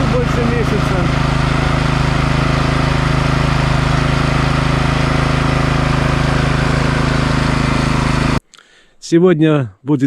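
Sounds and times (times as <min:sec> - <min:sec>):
petrol engine idling: 0:00.0 - 0:08.4.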